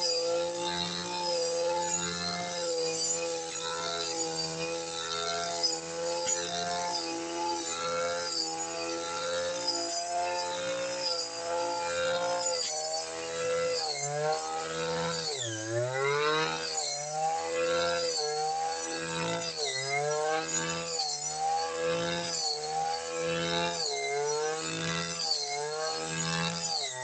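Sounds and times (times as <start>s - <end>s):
brush cutter engine high revs: 0.0s - 27.0s.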